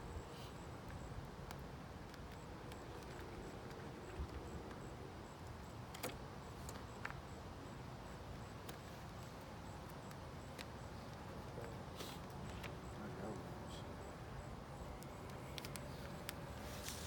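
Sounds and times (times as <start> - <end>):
low outdoor background: 0.0 - 17.0
faint clicks and taps: 0.8 - 7.3, 8.6 - 13.5, 14.8 - 17.0.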